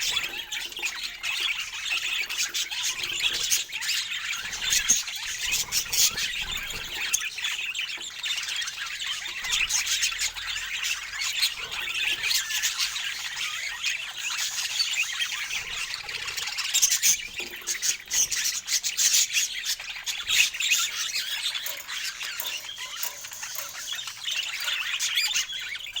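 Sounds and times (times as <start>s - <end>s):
budgerigars chattering: 0.0s - 26.0s.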